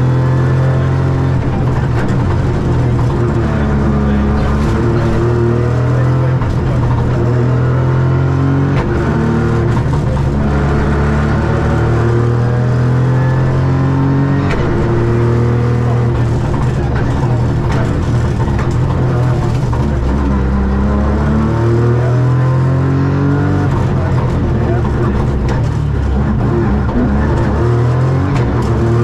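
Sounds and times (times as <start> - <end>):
rally car engine through gears: 0.0 - 29.0.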